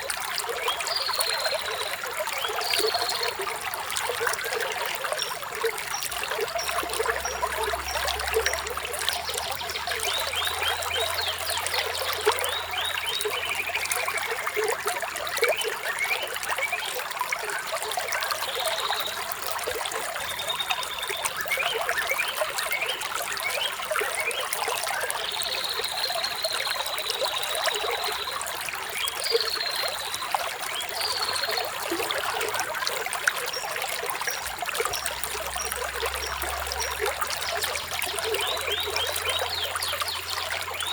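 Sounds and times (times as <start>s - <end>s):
water trickling: 0.0s - 40.9s.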